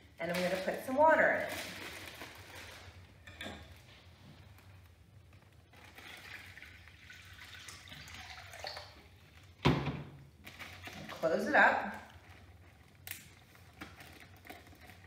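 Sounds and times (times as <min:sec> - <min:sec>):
water trickling into plastic bag: 0:00.2 - 0:03.1, 0:04.6 - 0:09.6, 0:10.3 - 0:15.0.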